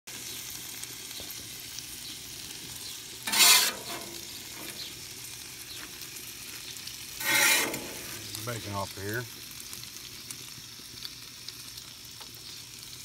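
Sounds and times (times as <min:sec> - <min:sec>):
bacon sizzling on a griddle: 0:00.1 - 0:13.0.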